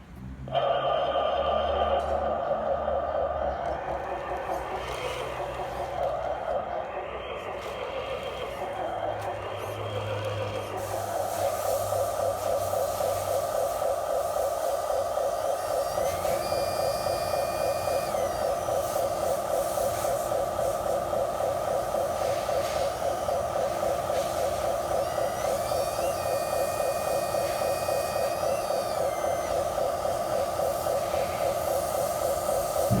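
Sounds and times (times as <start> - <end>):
higher motor whine: 0.0 - 33.0
pump motor whirring: 0.5 - 33.0.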